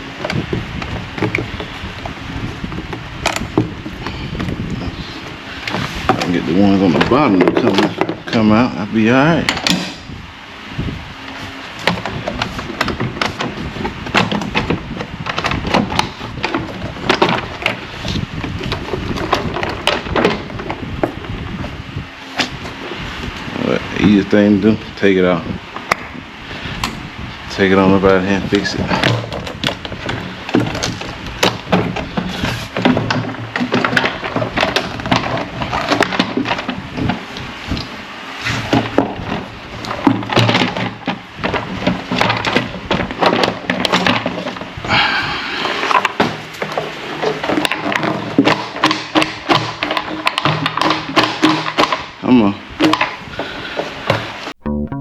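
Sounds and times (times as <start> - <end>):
sharp clicks rattles and knocks: 0.0 - 4.8, 5.6 - 10.1, 11.8 - 21.8, 26.8 - 37.9, 38.6 - 44.8, 45.6 - 54.6
steady low hum: 0.0 - 55.0.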